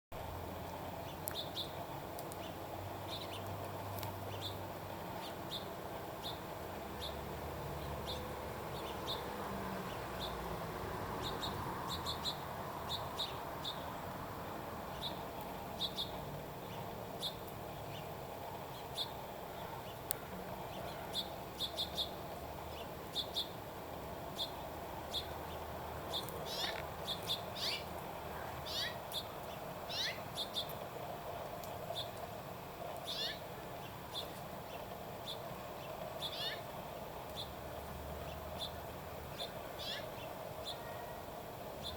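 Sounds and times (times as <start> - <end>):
steady background hiss: 0.2 - 41.9
small birds chirping: 0.6 - 14.1, 14.8 - 41.9.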